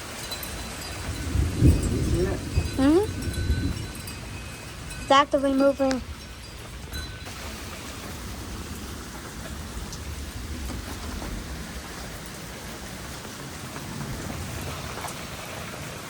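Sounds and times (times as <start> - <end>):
steady rain hiss: 0.0 - 16.0
low thunder rumble: 0.9 - 16.0.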